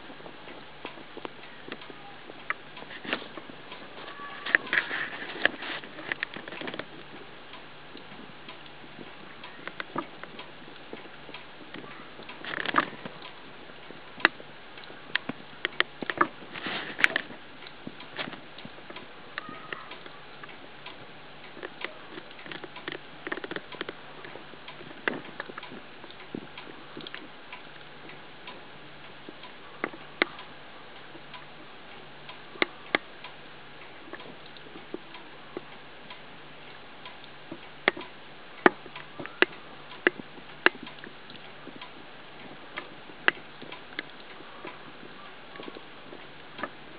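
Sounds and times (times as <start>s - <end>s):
faint steady hum: 0.0s - 46.9s
light clicks and rustling taps: 0.2s - 46.8s.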